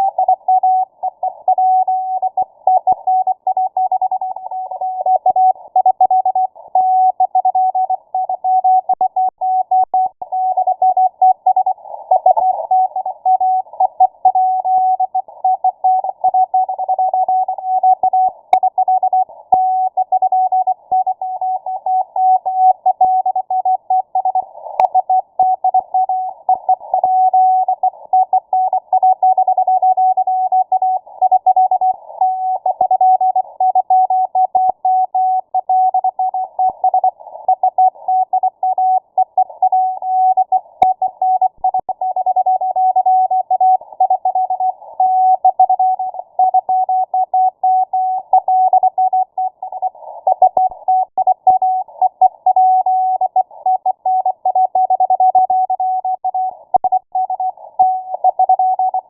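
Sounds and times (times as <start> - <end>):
morse code beeps: 0.0 - 59.0.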